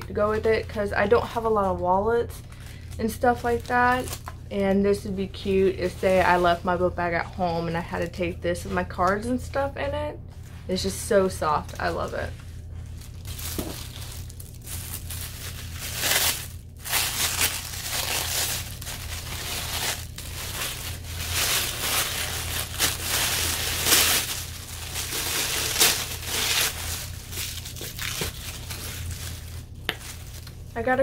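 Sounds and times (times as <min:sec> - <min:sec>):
plastic wrapping crinkling: 0:00.2 - 0:04.6, 0:10.3 - 0:31.0.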